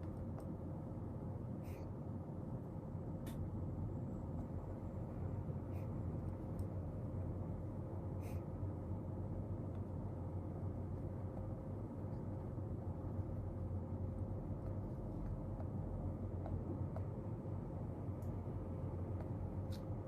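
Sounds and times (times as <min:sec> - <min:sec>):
faint steady tone: 0:00.0 - 0:20.0
low room hum: 0:00.0 - 0:20.0.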